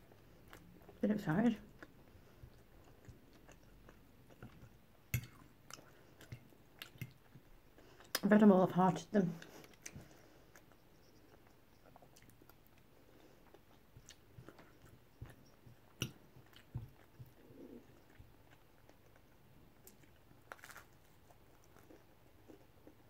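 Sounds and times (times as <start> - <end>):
person chewing food: 0.0 - 1.0, 1.6 - 8.2, 9.4 - 23.0.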